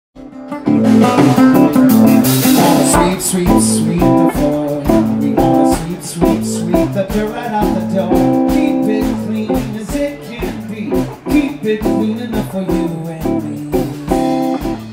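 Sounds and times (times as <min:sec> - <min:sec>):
live rock band: 0:00.2 - 0:14.9.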